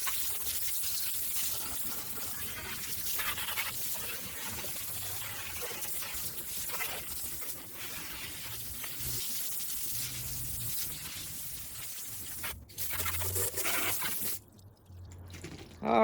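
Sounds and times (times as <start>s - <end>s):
garden hose water spraying: 0.0s - 14.6s.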